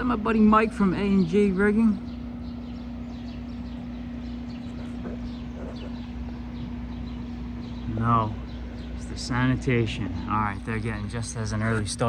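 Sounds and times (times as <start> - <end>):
low hum: 0.0 - 12.0
small birds chirping: 0.0 - 12.0.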